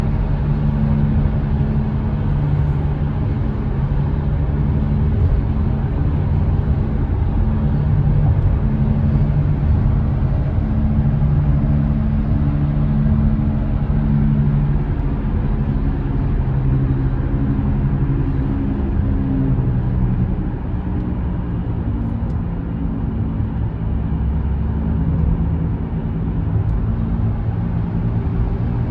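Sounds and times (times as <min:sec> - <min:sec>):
low groaning drone: 0:00.0 - 0:28.9
road noise: 0:00.0 - 0:28.9.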